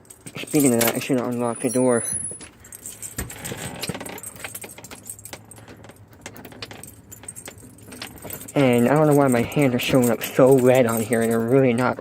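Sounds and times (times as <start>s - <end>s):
keys jangling: 0.0s - 12.0s.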